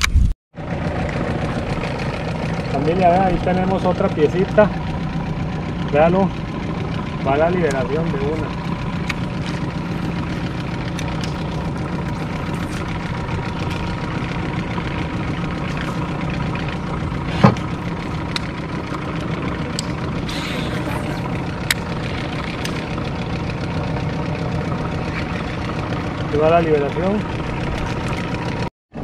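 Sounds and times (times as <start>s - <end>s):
engine idling: 0.6s - 29.0s.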